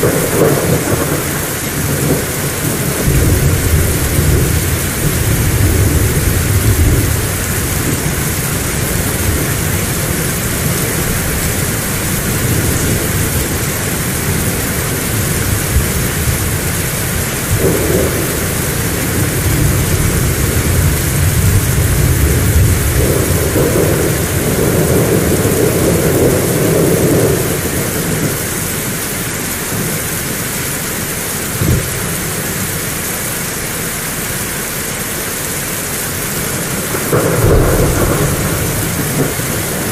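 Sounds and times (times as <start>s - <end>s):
thunder rumbling: 0.0s - 34.4s, 35.4s - 39.9s
heavy rain pouring: 0.0s - 39.9s.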